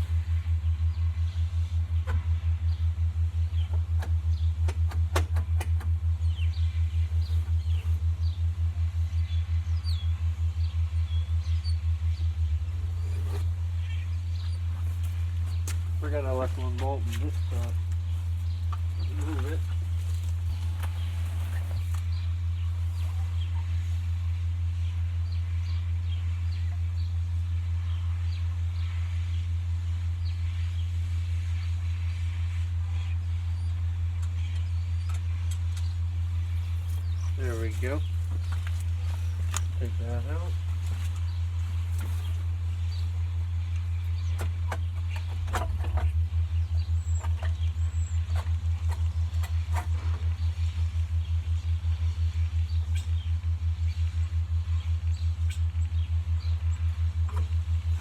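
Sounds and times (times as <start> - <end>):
birds chirping: 0.0 - 58.0
loud pulsing low hum: 0.0 - 58.0.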